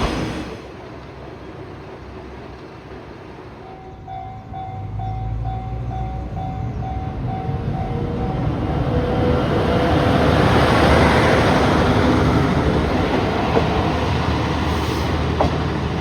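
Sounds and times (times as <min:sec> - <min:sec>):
diesel train rumble: 0:00.0 - 0:16.0.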